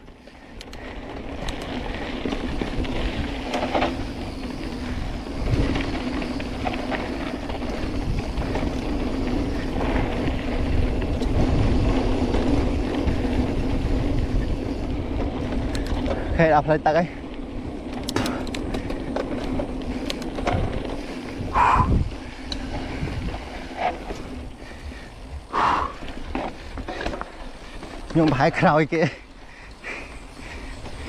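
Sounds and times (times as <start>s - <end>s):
bike clicks: 0.0s - 31.0s
bike rattling: 0.0s - 31.0s
bike tyres rumbling on dirt: 0.0s - 31.0s.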